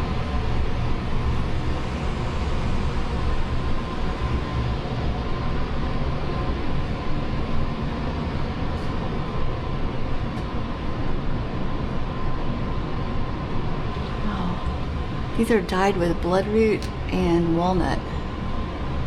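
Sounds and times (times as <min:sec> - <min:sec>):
air conditioner running: 0:00.0 - 0:19.0.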